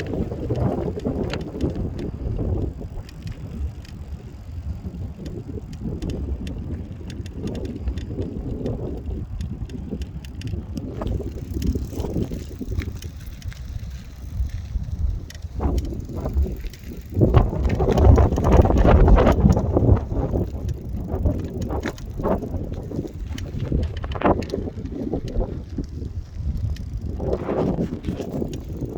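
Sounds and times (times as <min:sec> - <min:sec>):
light clicks and crackles: 0:00.0 - 0:28.9
wind buffeting microphone: 0:00.0 - 0:28.9.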